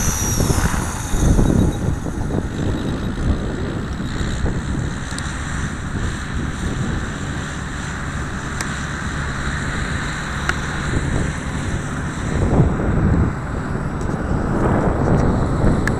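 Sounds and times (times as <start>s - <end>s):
rc helicopter rotor hum: 0.0s - 15.9s
wind buffeting microphone: 0.0s - 15.9s.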